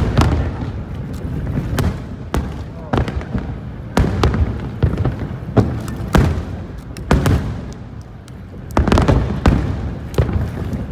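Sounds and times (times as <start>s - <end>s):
fireworks booming and cracking: 0.0s - 10.9s.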